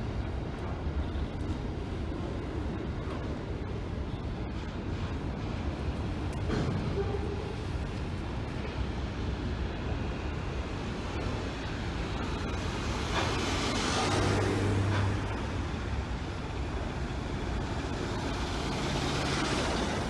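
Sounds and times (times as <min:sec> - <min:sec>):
freight train rumbling on bridge: 0:00.0 - 0:20.0.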